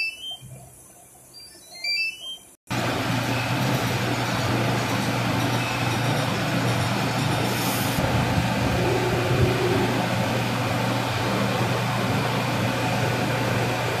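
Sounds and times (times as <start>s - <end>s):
machine humming with hiss: 2.7s - 14.0s.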